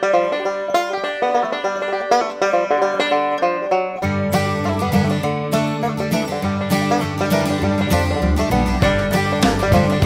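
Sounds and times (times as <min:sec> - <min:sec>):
bluegrass instrumental music: 0:00.0 - 0:10.0.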